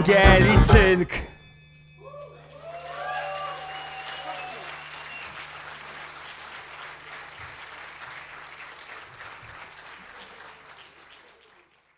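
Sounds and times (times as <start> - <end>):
audience applauding: 2.2 - 11.9.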